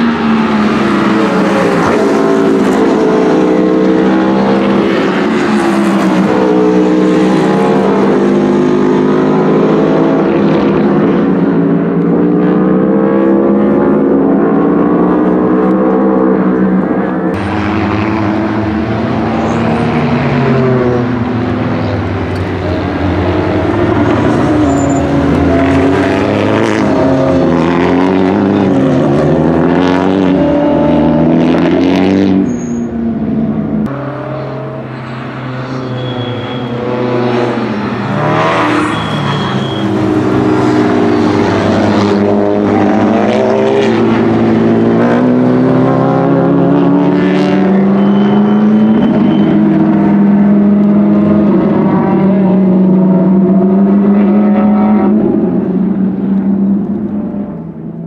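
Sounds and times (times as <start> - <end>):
engines revving through gear changes: 0.0 - 35.8, 36.4 - 58.0
race cars passing at speed: 0.0 - 58.0.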